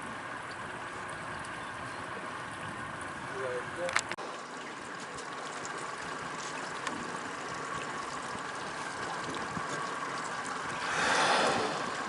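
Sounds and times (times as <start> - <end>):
boat engine running quietly: 0.0 - 12.0
water lapping around boat: 0.0 - 12.0.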